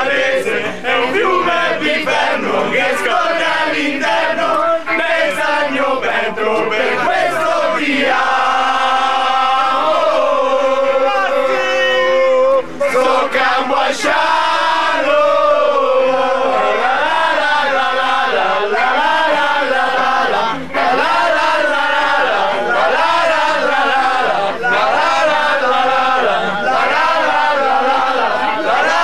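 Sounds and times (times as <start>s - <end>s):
men singing a chant together: 0.0s - 11.6s, 12.2s - 29.0s.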